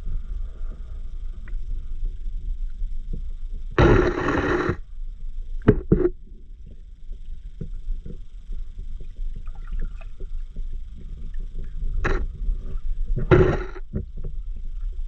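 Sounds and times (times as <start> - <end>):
underwater water rumble: 0.0 - 15.0
faint ticks: 1.3 - 15.0.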